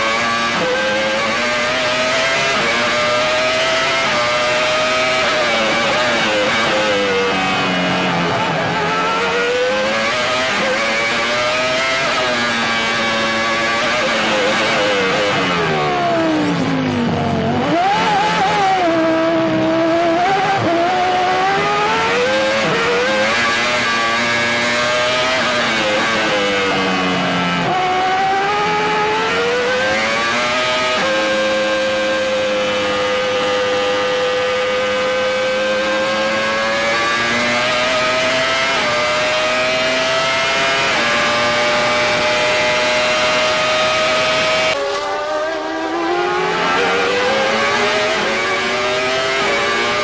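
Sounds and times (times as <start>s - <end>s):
racing car engine at high revs: 0.0s - 50.0s.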